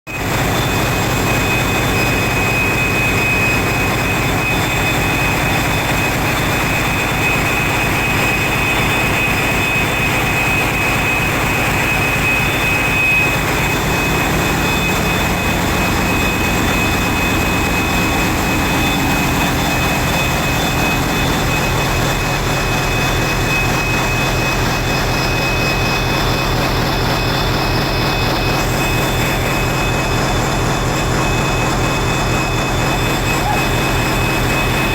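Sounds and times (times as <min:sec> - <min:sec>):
high whine: 0:00.1 - 0:34.9
diesel engines droning: 0:00.2 - 0:34.9.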